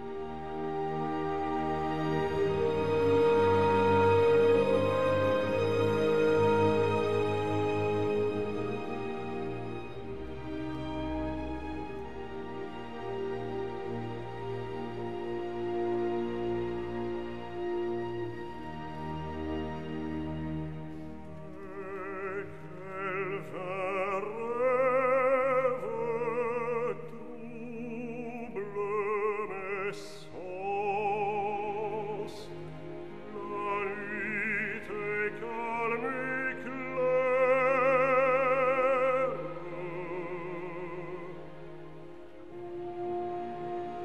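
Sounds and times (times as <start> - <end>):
soft instrumental accompaniment: 0.0 - 27.6, 28.2 - 44.0
operatic singing: 0.0 - 44.0.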